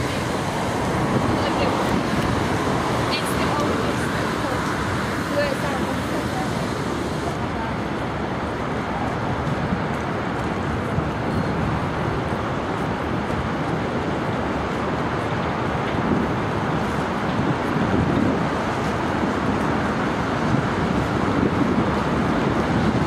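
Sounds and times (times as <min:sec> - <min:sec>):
boat engine: 0:00.0 - 0:23.0
wind rumble: 0:00.0 - 0:23.0.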